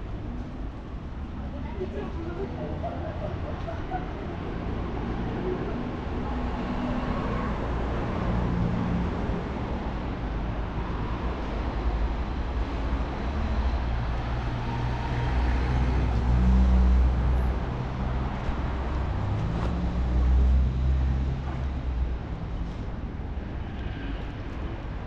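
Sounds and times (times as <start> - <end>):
vehicles driving past: 0.0 - 25.0.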